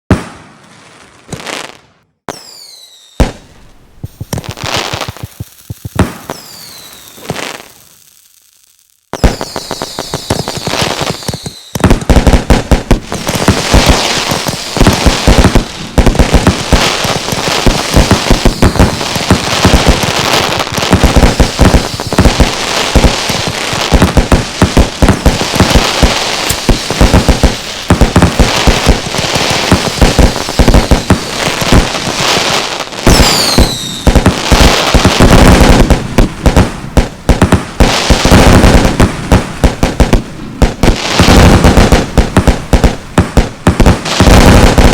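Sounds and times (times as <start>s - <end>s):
fireworks cracks and bangs: 0.1s - 8.2s, 9.0s - 44.9s
falling firework whistles: 1.4s - 12.2s, 13.1s - 44.9s.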